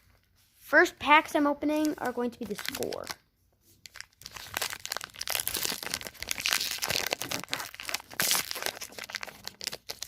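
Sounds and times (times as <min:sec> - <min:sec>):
plastic wrapper crinkling: 0:01.8 - 0:10.0.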